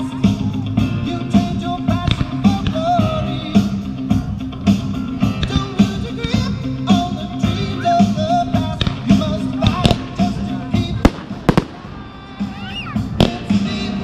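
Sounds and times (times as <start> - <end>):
song with singing over drum beat: 0.0 - 14.0.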